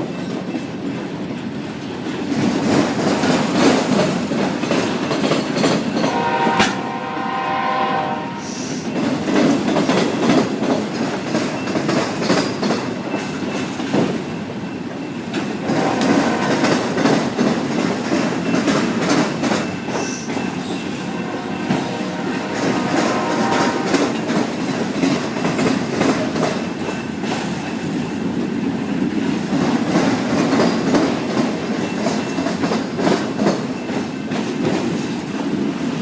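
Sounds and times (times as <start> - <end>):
wheels clacking over rail joints: 0.0 - 7.0, 8.9 - 36.0
train rumbling past: 0.0 - 36.0.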